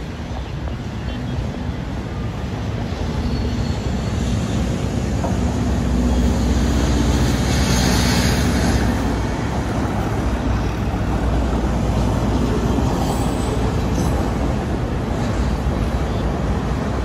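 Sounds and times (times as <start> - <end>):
road traffic: 0.0 - 17.0
train rumbling on tracks: 0.0 - 17.0.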